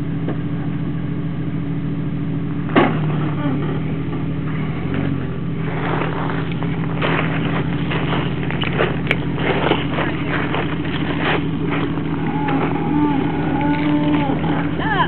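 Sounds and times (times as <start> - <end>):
engine running at low speed: 0.0 - 15.0
tyres crunching on loose rock: 2.7 - 15.0.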